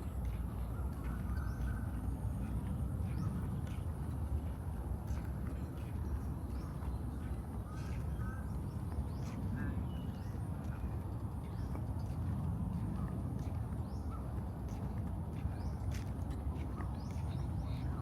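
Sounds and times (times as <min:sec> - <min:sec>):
soft walking footsteps: 0:00.0 - 0:18.0.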